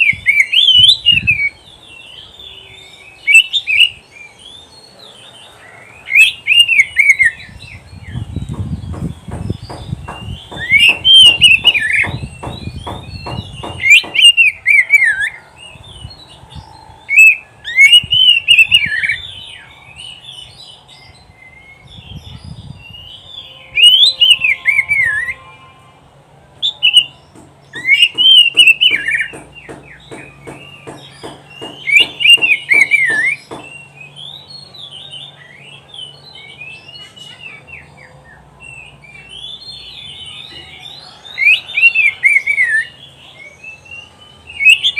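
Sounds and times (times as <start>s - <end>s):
bird whistling song: 0.0s - 25.7s, 26.6s - 44.9s.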